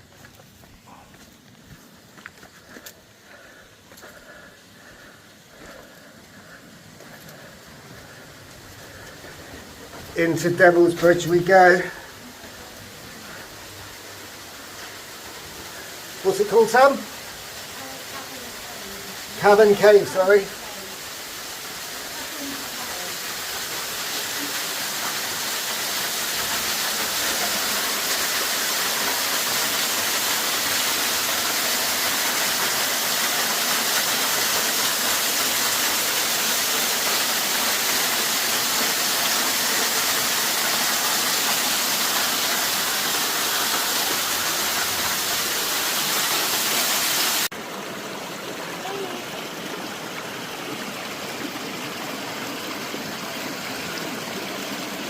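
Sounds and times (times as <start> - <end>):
waterfall roaring: 5.7 - 55.0.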